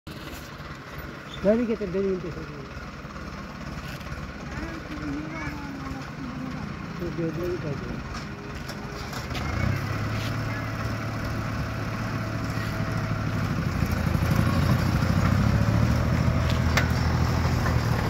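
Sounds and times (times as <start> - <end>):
motorcycle engine running: 0.1 - 18.0.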